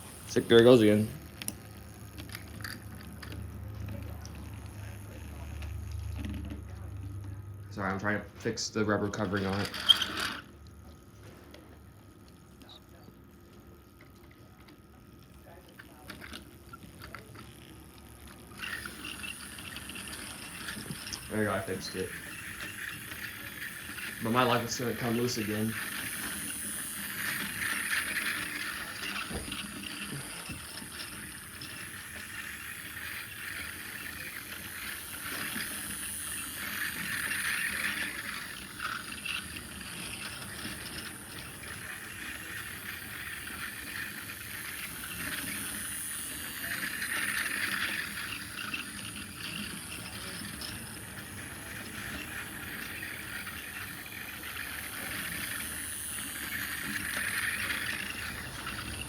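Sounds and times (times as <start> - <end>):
electric motors whirring: 0.0 - 59.0.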